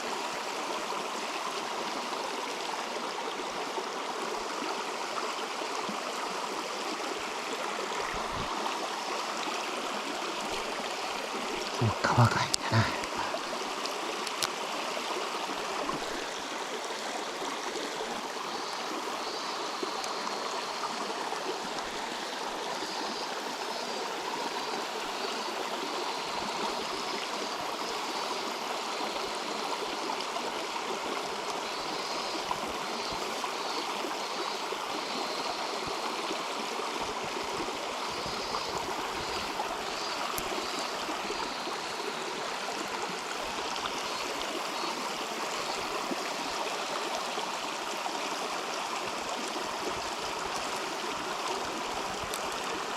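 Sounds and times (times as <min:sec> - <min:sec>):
river flowing over rocks: 0:00.0 - 0:52.9.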